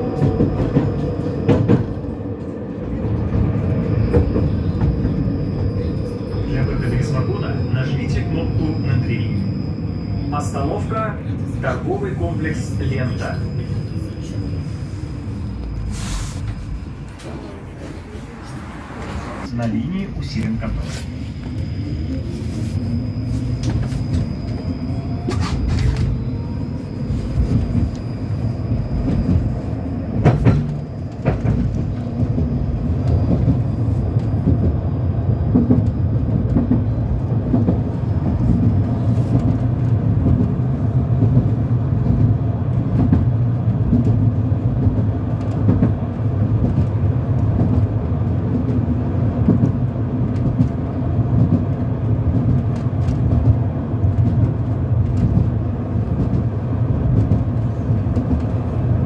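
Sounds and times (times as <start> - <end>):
tram hum and wheel rumble: 0.0 - 59.0.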